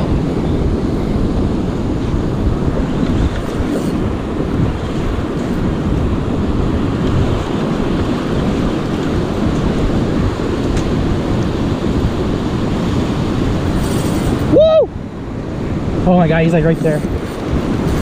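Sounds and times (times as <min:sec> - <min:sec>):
breaking surf: 0:00.0 - 0:18.0
wind buffeting microphone: 0:00.0 - 0:18.0.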